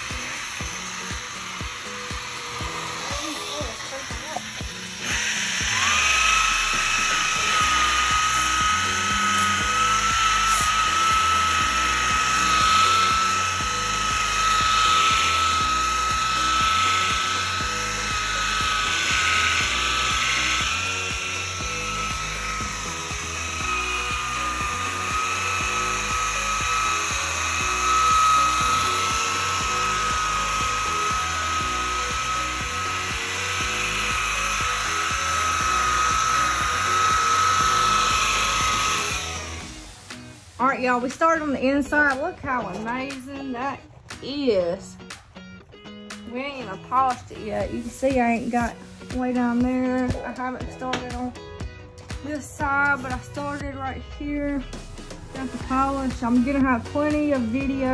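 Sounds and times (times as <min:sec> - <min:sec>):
power tool motor whining: 0:00.0 - 0:43.4, 0:46.1 - 0:57.9.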